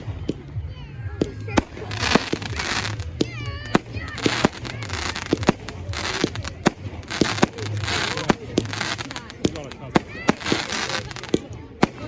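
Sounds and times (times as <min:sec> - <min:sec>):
fireworks bangs and cracks: 0:01.2 - 0:12.0
fireworks crackling hiss: 0:01.4 - 0:12.0.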